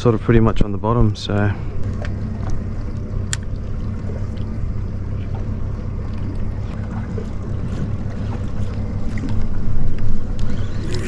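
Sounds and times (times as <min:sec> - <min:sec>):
boat rumble at sea: 0:00.0 - 0:11.0
water against hull: 0:00.0 - 0:11.0
wind: 0:00.0 - 0:11.0.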